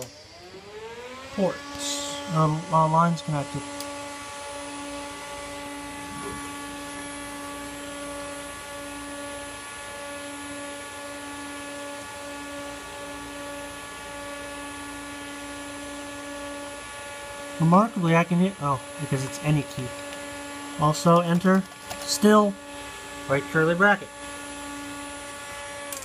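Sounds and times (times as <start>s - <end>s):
computer equipment humming: 0.0s - 26.0s.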